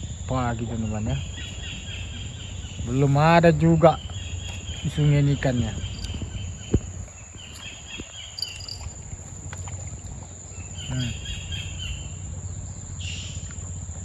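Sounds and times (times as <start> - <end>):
high-pitched insect drone: 0.0 - 13.4
bird chirps: 0.0 - 14.0
low rumble: 0.0 - 14.0.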